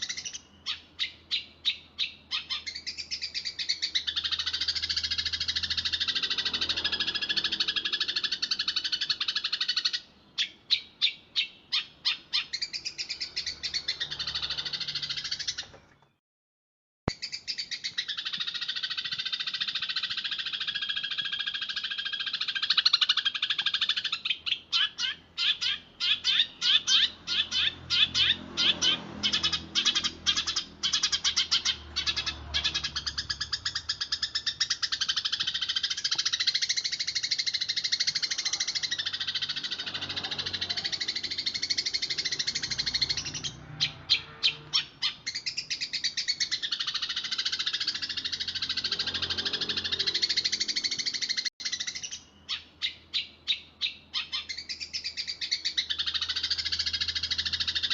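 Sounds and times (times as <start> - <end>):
sparrows chirping: 0.0 - 16.2, 17.1 - 57.9.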